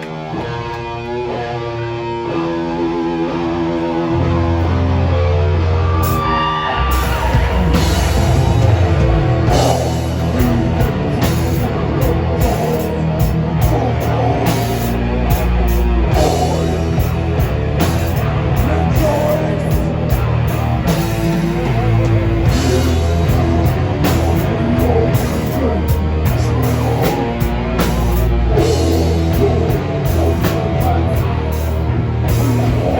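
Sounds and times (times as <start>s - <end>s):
live heavy rock band: 0.0s - 32.9s.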